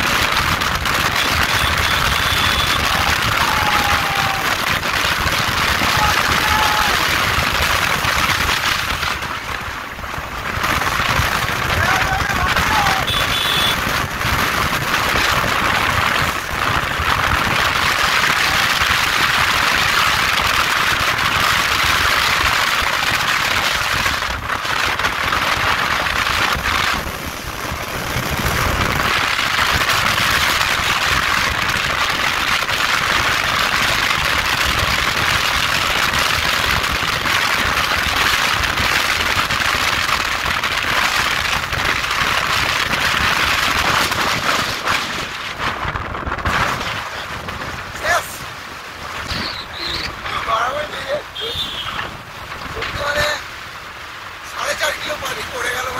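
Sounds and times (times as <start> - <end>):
wind noise on microphone: 0.0 - 53.7
motorcycle engine and road rumble: 0.0 - 55.9.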